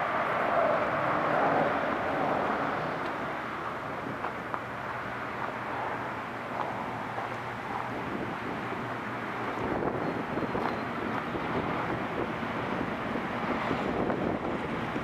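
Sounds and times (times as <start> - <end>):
steady outdoor noise: 0.0 - 15.0.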